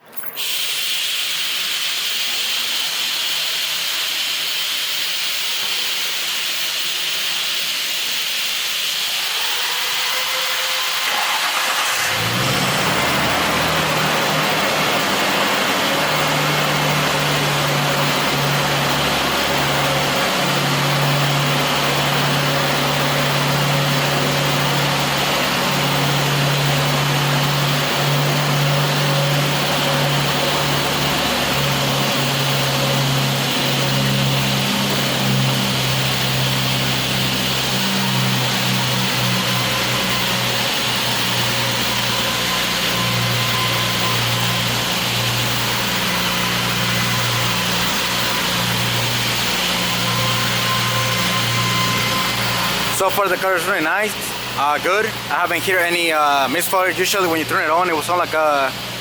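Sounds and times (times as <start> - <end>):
steady hiss: 0.4 - 59.0
car engine idling: 9.2 - 59.0.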